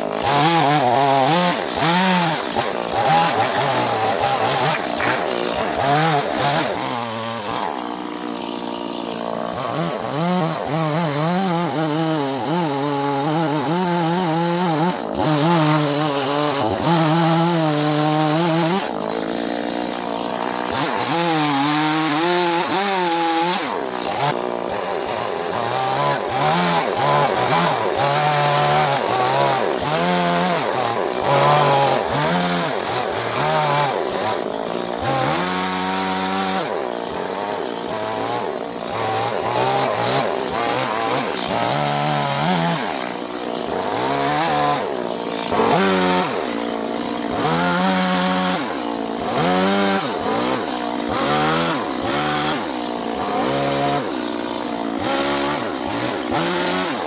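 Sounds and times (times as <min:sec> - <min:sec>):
chainsaw revving and cutting wood: 0:00.0 - 0:57.0.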